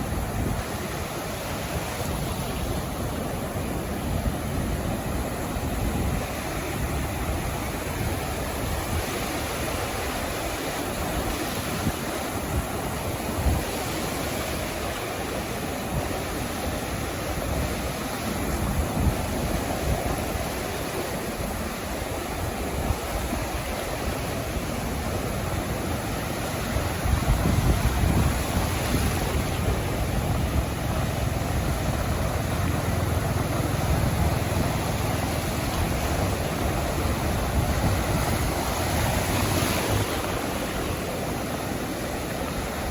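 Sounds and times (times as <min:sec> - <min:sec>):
surf washing onto beach: 0:00.0 - 0:42.9.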